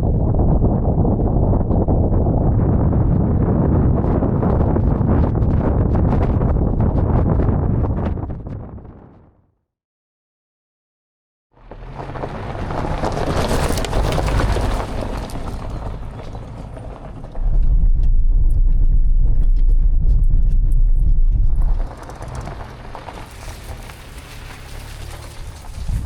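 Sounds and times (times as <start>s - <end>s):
wind buffeting microphone: 0.0s - 9.4s, 11.9s - 26.0s.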